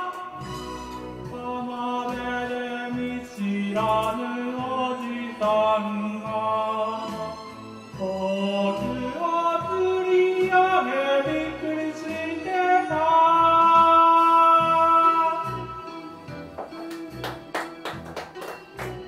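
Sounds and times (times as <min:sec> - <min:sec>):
karaoke music: 0:00.0 - 0:19.0.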